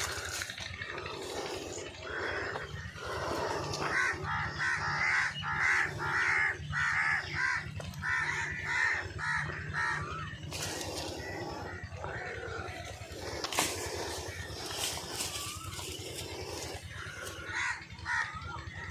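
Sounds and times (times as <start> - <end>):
bird giving harsh calls: 0.0 - 18.9.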